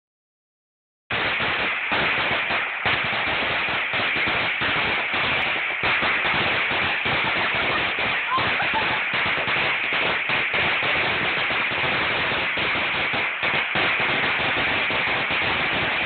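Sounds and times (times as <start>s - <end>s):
firecrackers crackling: 1.1s - 16.0s.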